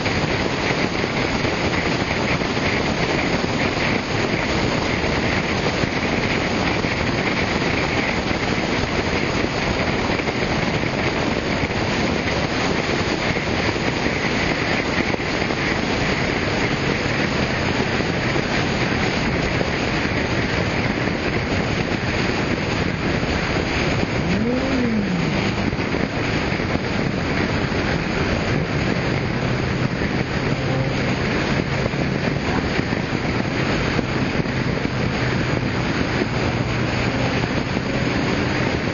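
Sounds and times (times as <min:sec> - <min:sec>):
car traffic noise: 0:00.0 - 0:38.9
low engine hum: 0:00.0 - 0:38.9
wind rushing: 0:00.0 - 0:38.9.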